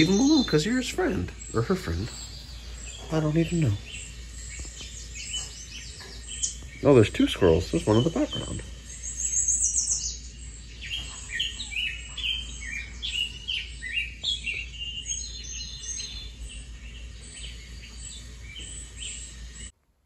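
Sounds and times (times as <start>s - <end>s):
birds chirping through tv speakers: 0.0s - 19.8s.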